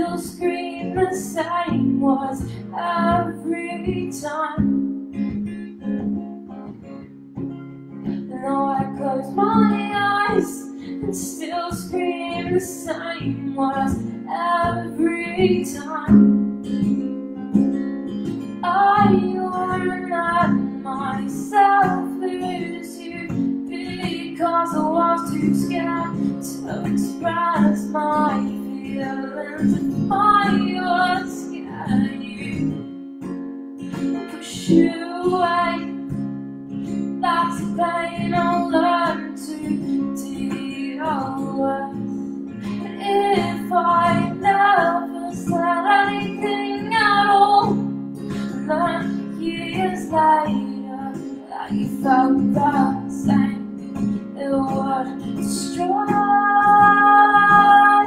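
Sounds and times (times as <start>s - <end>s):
woman singing: 0.0s - 4.9s, 8.0s - 16.4s, 18.4s - 32.9s, 34.0s - 36.2s, 36.8s - 58.0s
strummed acoustic guitar: 0.0s - 58.0s.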